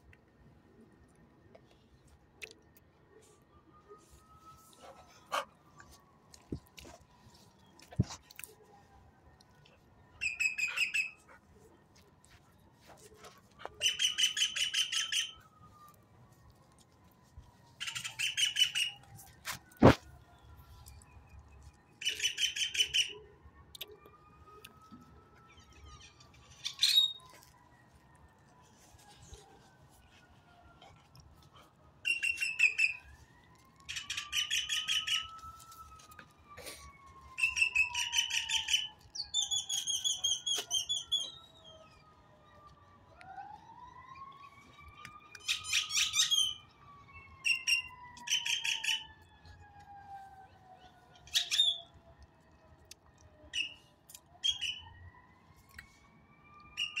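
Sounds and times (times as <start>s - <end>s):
faint siren wailing: 0.0s - 57.0s.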